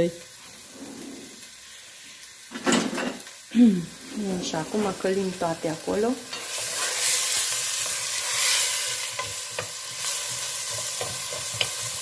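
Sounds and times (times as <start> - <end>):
onion sizzling in hot oil: 0.0 - 12.0.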